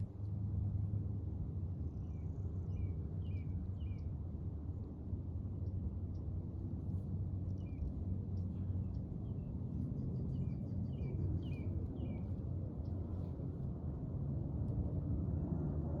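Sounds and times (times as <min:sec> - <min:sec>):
wind rumbling on microphone: 0:01.1 - 0:16.0.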